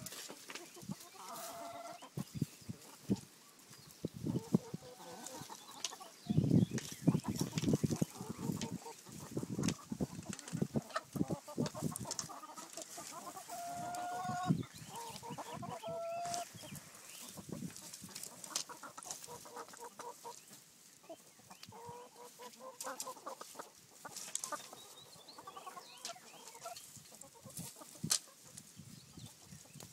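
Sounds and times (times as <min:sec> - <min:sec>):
hens clucking and squawking: 0:00.0 - 0:29.9.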